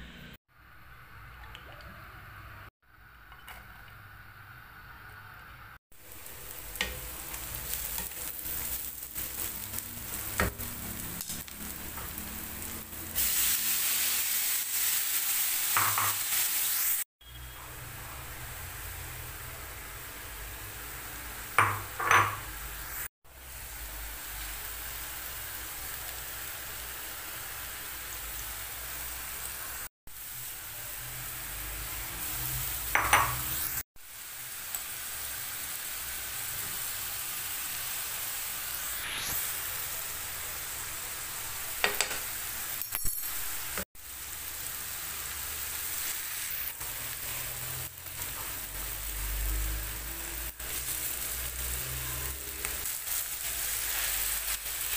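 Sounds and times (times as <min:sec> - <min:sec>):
vegetables sizzling in oil: 0:00.5 - 0:54.9.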